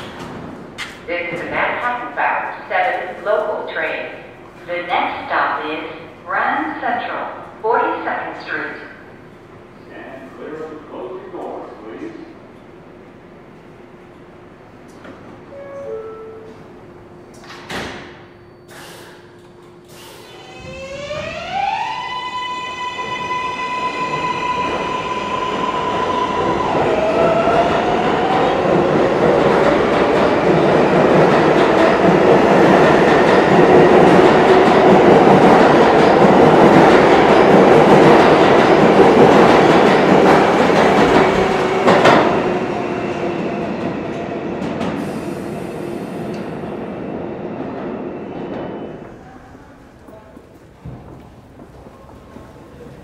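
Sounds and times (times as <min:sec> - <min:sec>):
train cars rumbling and clattering: 0:00.0 - 0:21.4, 0:22.9 - 0:53.0
subway train motors whining: 0:00.0 - 0:53.0.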